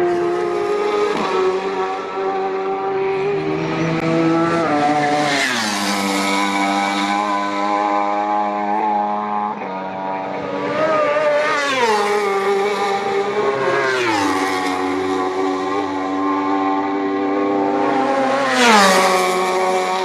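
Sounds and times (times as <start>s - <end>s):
motorcycles passing at high speed: 0.0s - 20.0s.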